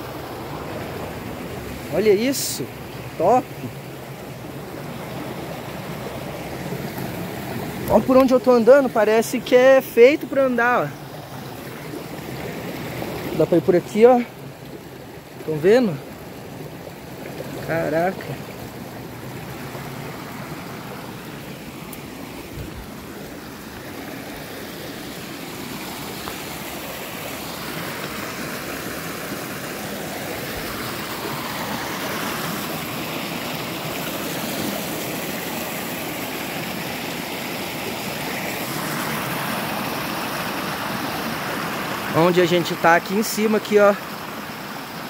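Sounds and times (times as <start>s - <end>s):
creek rushing over rocks: 0.0s - 45.0s.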